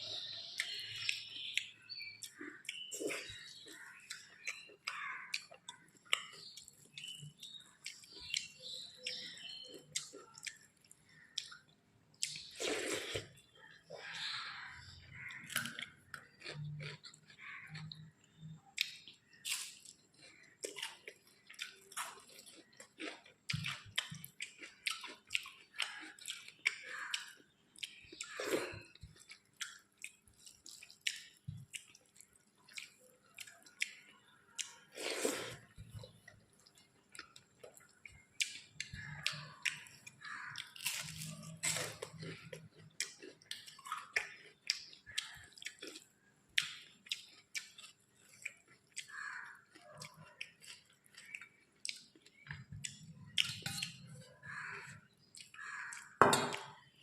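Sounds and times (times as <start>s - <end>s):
wet chewing and lip smacks: 0.4s - 14.3s, 15.1s - 57.0s.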